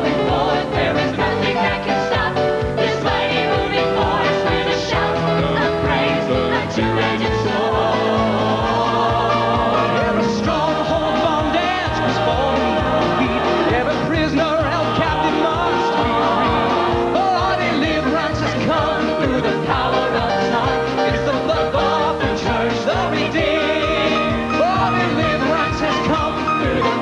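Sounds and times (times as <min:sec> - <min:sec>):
country gospel band music: 0:00.0 - 0:27.0.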